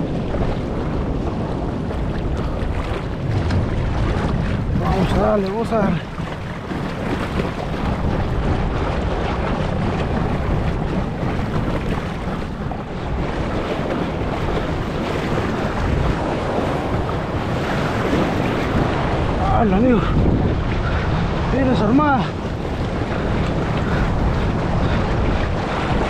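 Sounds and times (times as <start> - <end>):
ocean waves: 0.0 - 26.0
wind buffeting microphone: 0.0 - 26.0.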